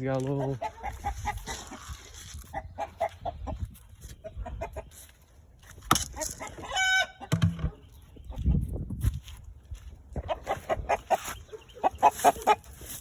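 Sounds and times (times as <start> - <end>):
chickens clucking: 0.0 - 8.8, 10.0 - 13.0.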